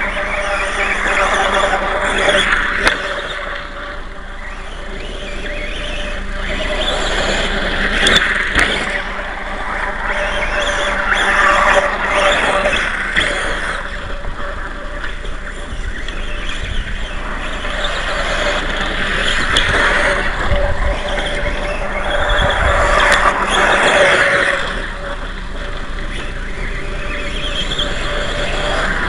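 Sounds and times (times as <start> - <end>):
toy motorcycle motor whining: 0.0 - 29.0
wind rumble on microphone: 0.0 - 29.0.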